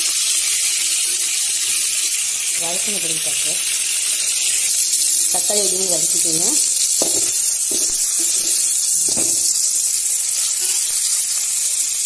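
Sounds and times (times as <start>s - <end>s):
tomato sizzling in hot oil: 0.0s - 12.0s.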